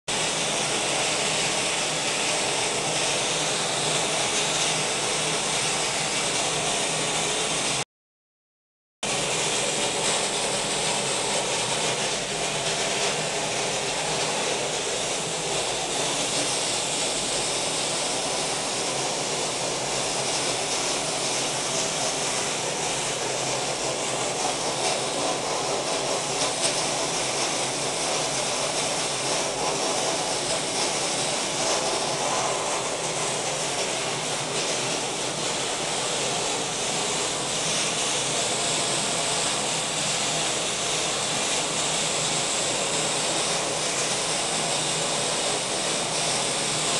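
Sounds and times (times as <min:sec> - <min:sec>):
blast nozzle hissing air: 0:09.2 - 0:46.9.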